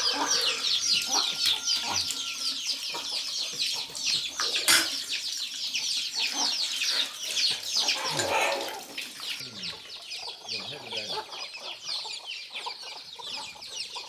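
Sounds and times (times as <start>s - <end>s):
chickens clucking and cheeping: 0.0s - 14.0s.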